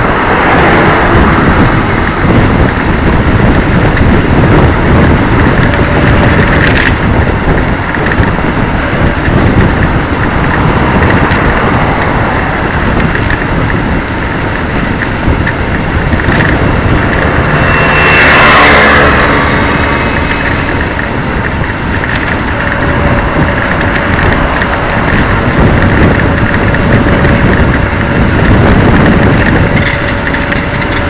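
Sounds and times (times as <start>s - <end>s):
motorcycle engine running: 0.0s - 31.0s
wind rushing over microphone: 0.0s - 31.0s.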